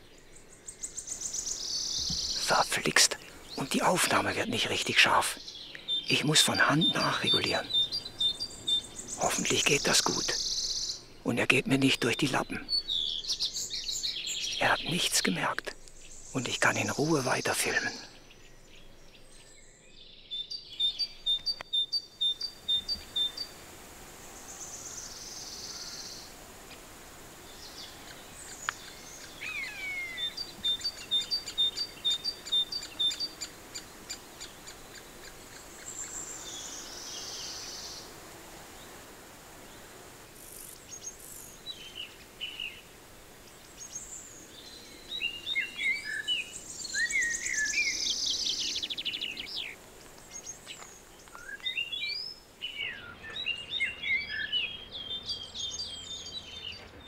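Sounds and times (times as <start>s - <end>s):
birds singing: 0.0s - 23.6s, 24.3s - 57.0s
faint outdoor background: 0.0s - 57.0s.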